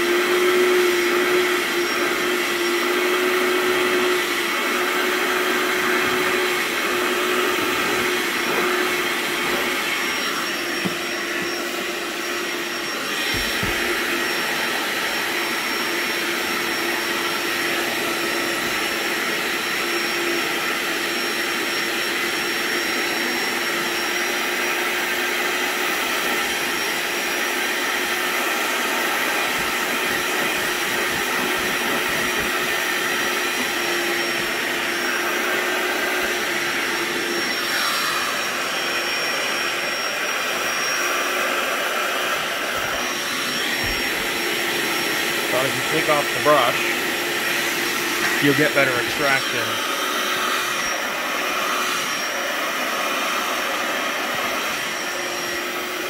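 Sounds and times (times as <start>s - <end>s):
spot cleaner suction motor running: 0.0s - 56.0s.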